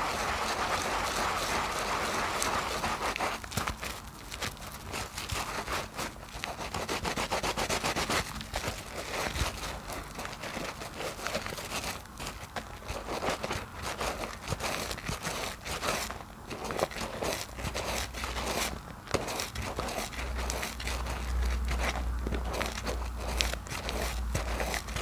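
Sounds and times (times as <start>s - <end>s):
sponges squishing in soap suds: 0.0s - 25.0s.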